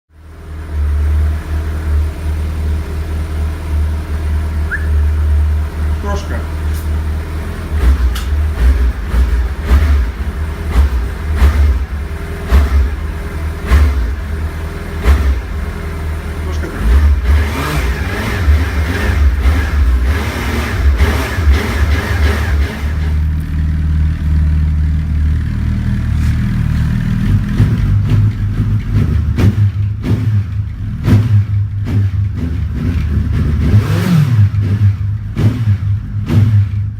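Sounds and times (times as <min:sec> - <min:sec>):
motorcycle engine revving: 0:00.2 - 0:36.9.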